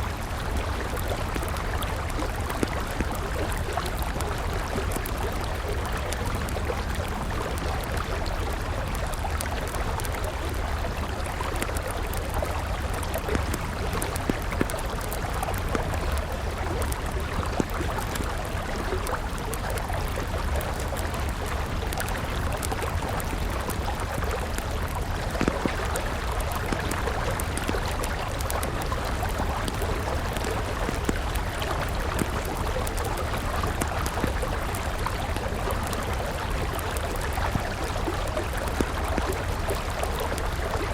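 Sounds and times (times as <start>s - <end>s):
campfire crackling: 0.0s - 40.9s
river flowing: 0.0s - 40.9s.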